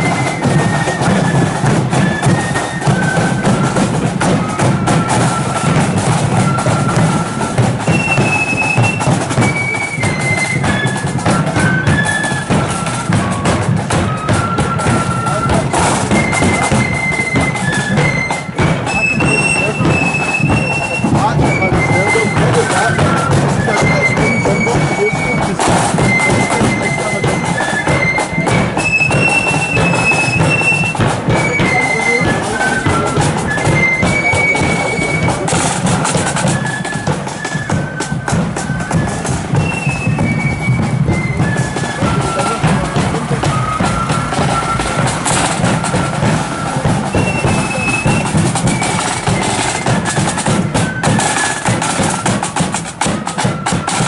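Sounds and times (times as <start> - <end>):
flute melody: 0.0 - 54.0
side drums: 0.0 - 54.0.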